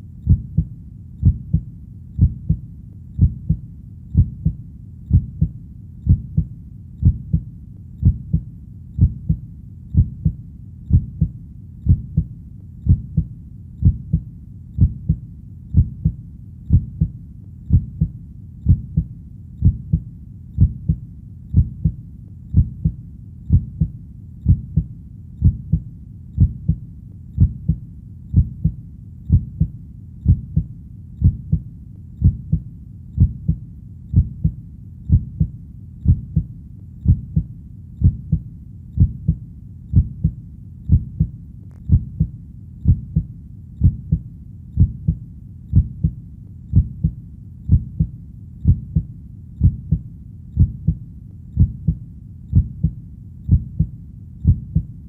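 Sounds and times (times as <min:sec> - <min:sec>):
heartbeat thumps: 0:00.0 - 0:26.8, 0:27.4 - 0:55.0.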